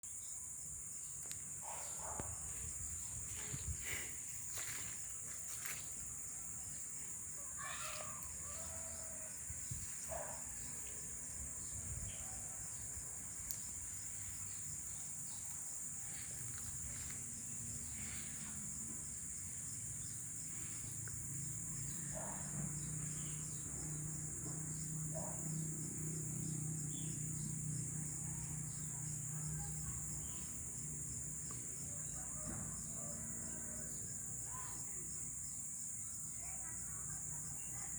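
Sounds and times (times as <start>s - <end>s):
high-pitched insect chorus: 0.0s - 37.9s
short insect calls: 0.1s - 37.9s.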